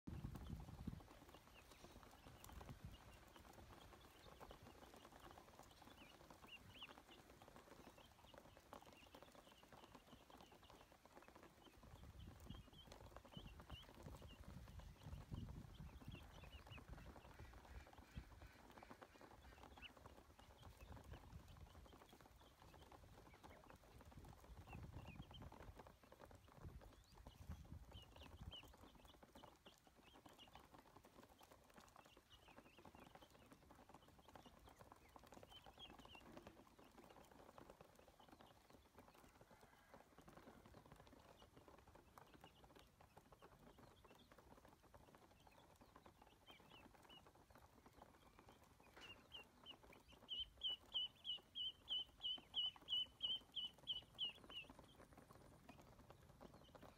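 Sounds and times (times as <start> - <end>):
ducklings peeping: 0.1 - 56.9.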